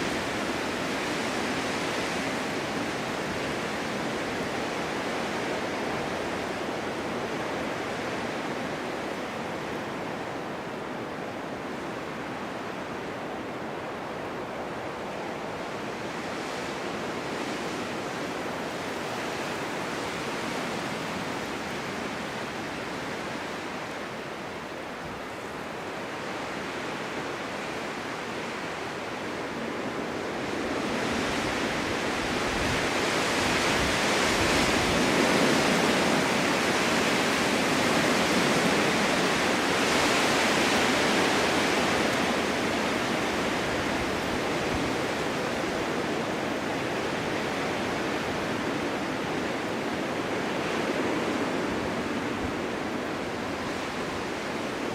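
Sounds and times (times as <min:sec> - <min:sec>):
strong wind gusts: 0:00.0 - 0:54.9.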